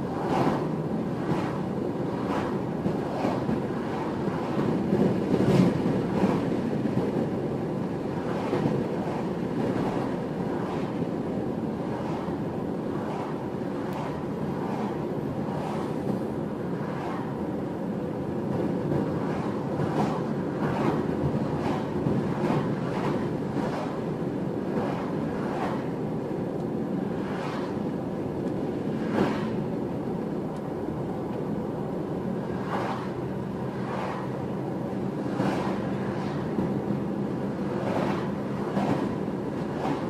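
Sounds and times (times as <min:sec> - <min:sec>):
car road and tyre rumble: 0:00.0 - 0:40.0.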